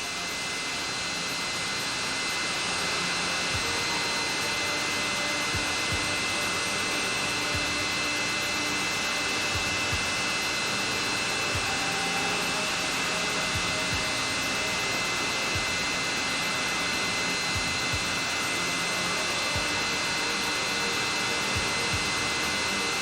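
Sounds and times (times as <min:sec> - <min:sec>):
high-pitched jet whine: 0:00.0 - 0:23.0.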